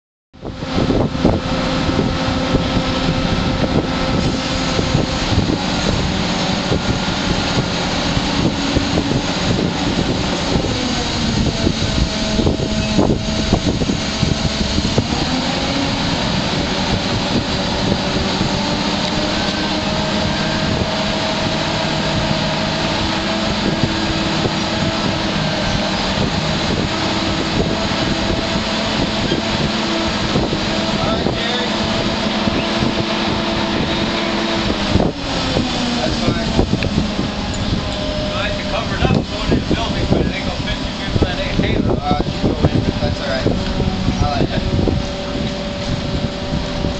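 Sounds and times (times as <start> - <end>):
mechanical whine: 0.4 - 46.9
travel lift engine running: 0.4 - 46.9.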